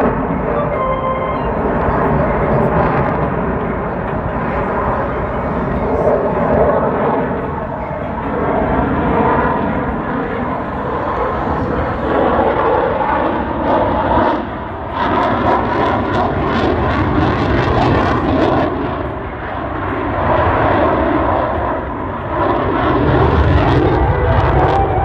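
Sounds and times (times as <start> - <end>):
aircraft engine flying past: 0.0 - 25.0.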